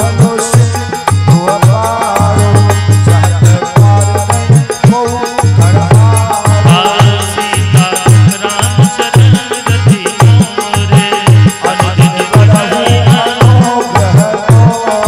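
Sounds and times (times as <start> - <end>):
dholak bass strokes: 0.0 - 15.0
harmonium melody: 0.0 - 15.0.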